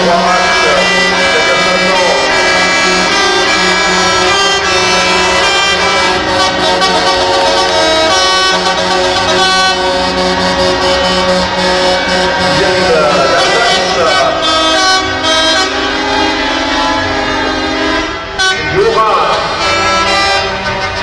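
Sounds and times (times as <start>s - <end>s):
truck air horns blasting: 0.0s - 21.0s.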